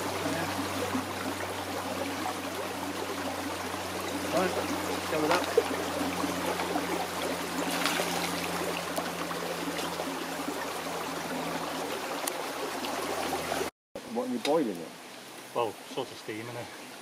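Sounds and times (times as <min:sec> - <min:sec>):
stream running over stones: 0:00.0 - 0:17.0.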